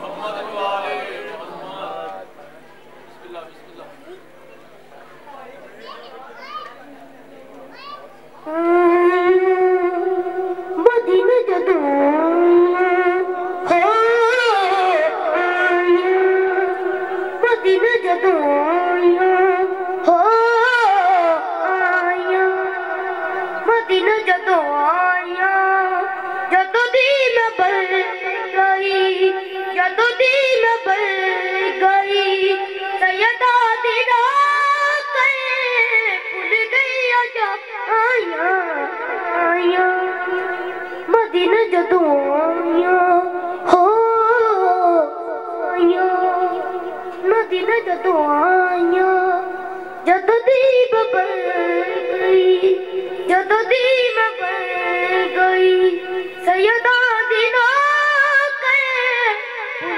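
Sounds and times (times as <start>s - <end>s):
boy singing a chant: 5.8s - 6.8s, 7.6s - 59.9s.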